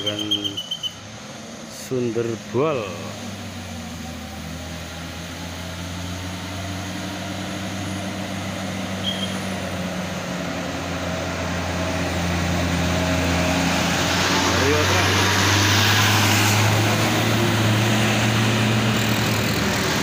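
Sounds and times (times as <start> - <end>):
bus diesel engine pulling uphill: 0.0 - 20.0.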